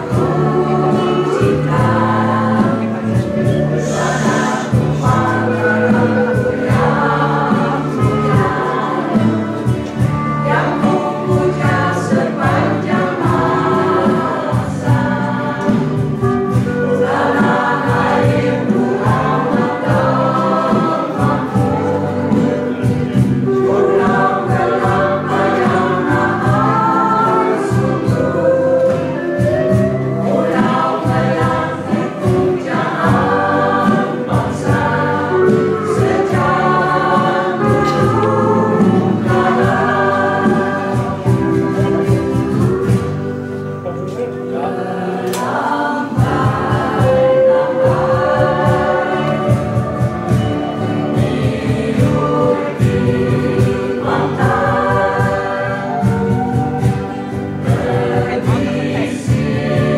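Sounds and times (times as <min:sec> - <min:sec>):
bass guitar: 0:00.0 - 0:44.4, 0:46.2 - 0:59.9
choir singing: 0:00.0 - 0:59.9.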